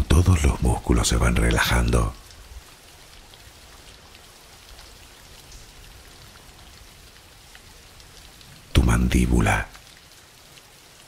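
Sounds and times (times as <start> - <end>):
rain hissing: 0.0 - 11.0
raindrop ticks: 0.0 - 11.0.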